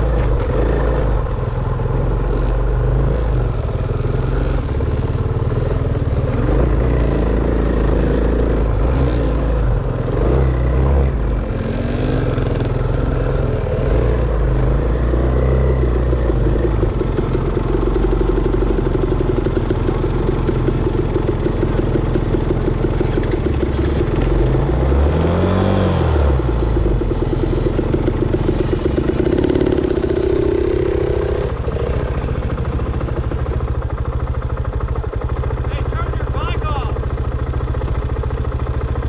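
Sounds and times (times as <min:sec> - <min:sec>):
dirt bike engine revving: 0:00.0 - 0:20.3, 0:22.4 - 0:33.4.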